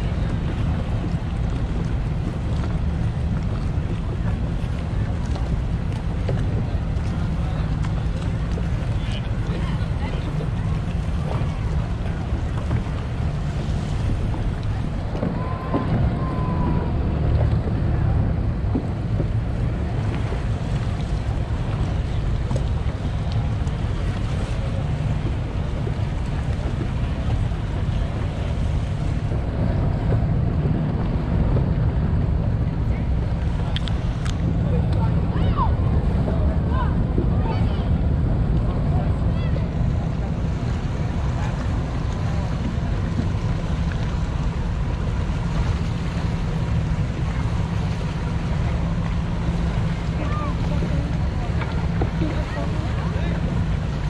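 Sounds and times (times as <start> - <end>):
choppy sea water washing: 0.0 - 54.0
wind buffeting microphone: 0.0 - 54.0.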